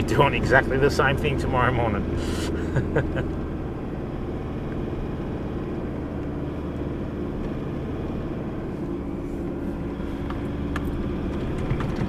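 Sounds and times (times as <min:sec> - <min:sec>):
road noise on dirt track: 0:00.0 - 0:12.0
vehicle engine drone: 0:00.0 - 0:12.0.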